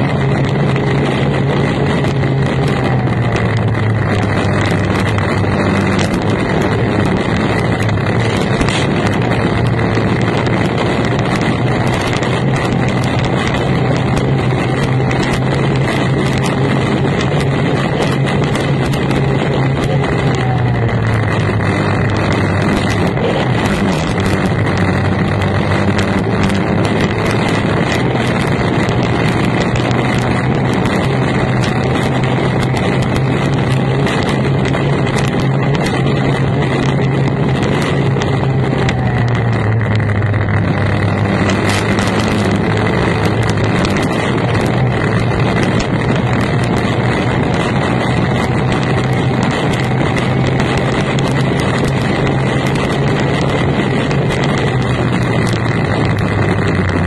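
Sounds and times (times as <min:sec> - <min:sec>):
outboard racing engine: 0:00.0 - 0:57.0
wind noise on microphone: 0:00.0 - 0:57.0.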